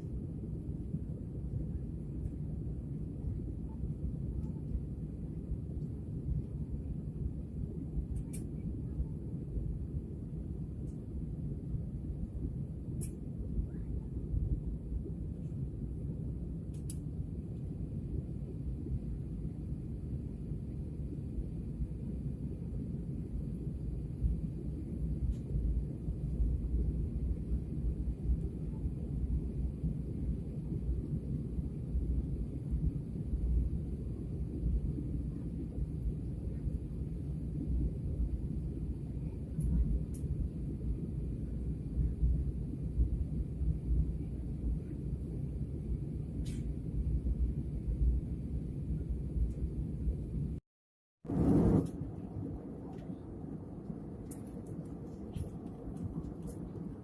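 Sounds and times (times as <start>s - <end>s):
airplane cabin rumble: 0.0s - 50.6s, 51.2s - 57.0s.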